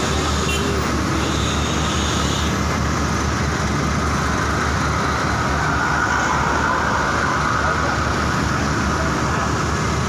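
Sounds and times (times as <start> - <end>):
bus engine rumbling: 0.0 - 10.0
street traffic: 0.0 - 10.0.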